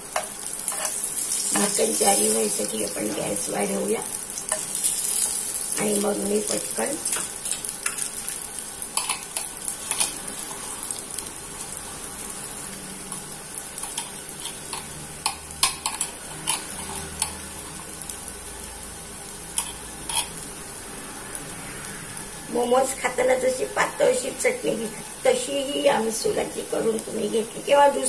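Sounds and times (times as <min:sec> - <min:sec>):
cutlets sizzling on a griddle: 0:00.0 - 0:28.0.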